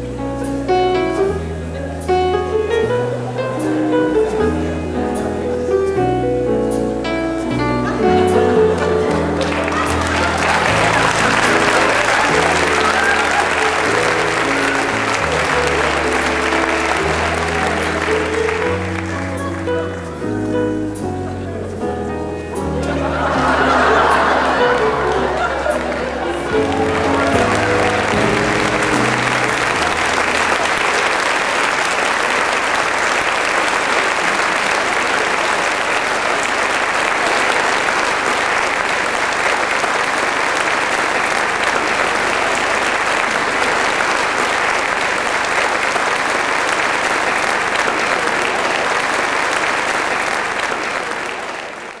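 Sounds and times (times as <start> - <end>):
audience applauding: 7.8 - 21.7, 22.5 - 52.0.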